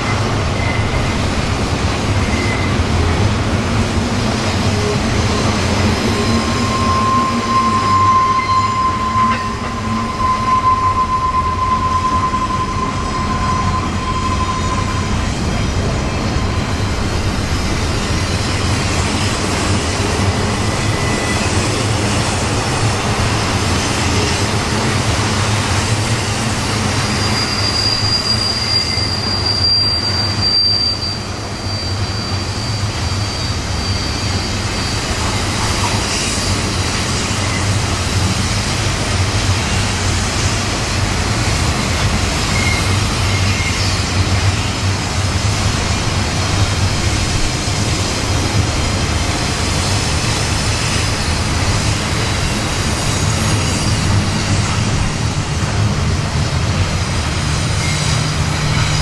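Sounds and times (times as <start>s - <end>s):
high wheel squeal: 0.0s - 1.2s, 2.1s - 3.2s, 4.8s - 22.5s, 26.2s - 39.2s, 41.7s - 55.2s, 57.7s - 59.0s
train rumbling past: 0.0s - 59.0s.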